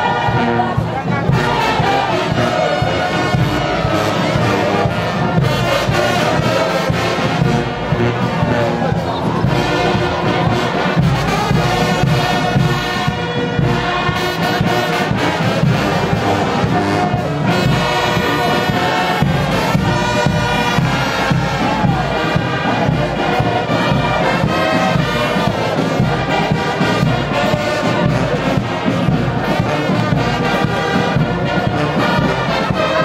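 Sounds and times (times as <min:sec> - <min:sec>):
brass band music: 0:00.0 - 0:33.0.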